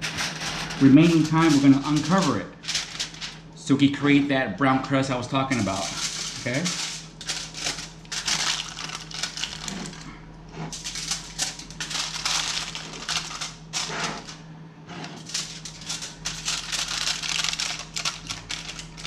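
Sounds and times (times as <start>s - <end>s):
aluminium foil crinkling: 0.0s - 3.5s, 5.5s - 14.4s, 15.1s - 19.0s.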